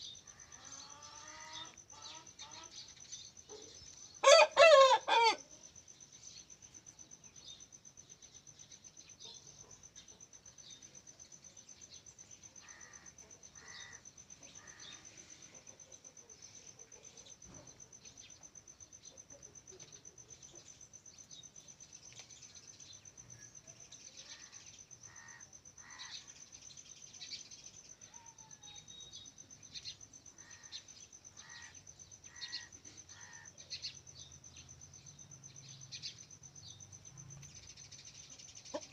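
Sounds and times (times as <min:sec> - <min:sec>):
faint bird chirps: 0:05.4 - 0:38.9.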